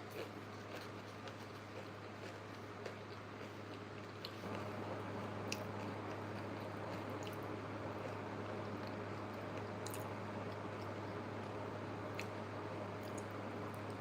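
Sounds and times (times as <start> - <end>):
chewing food: 0.0 - 14.0
steady low hum: 0.0 - 14.0.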